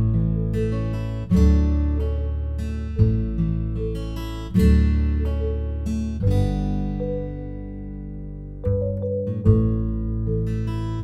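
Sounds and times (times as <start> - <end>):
deep bass: 0.0 - 11.0
plucked string chords: 0.0 - 11.0.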